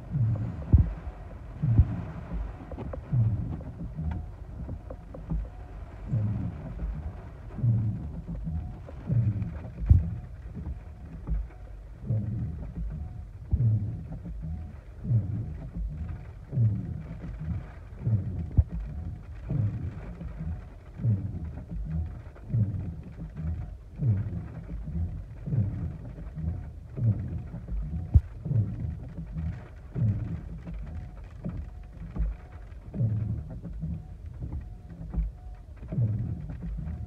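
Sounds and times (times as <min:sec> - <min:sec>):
steady rain: 0:00.0 - 0:37.0
windshield wipers swishing: 0:00.0 - 0:37.0.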